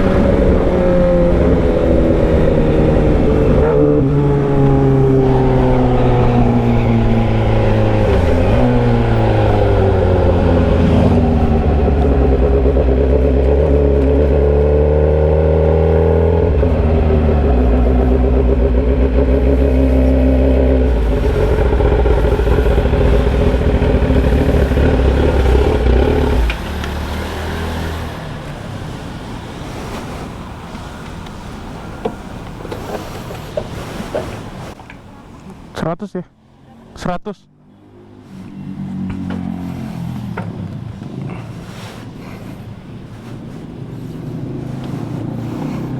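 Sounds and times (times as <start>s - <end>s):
loud motorcycle engine revving: 0.0s - 33.3s, 37.7s - 45.9s.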